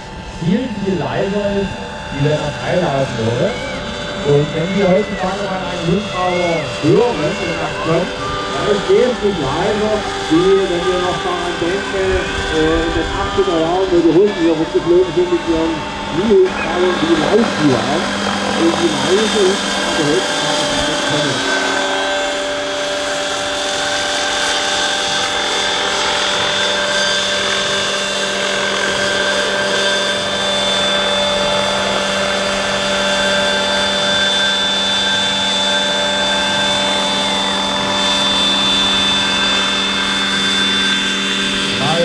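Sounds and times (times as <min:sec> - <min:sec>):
model helicopter whine and rotor hum: 0:00.0 - 0:42.0.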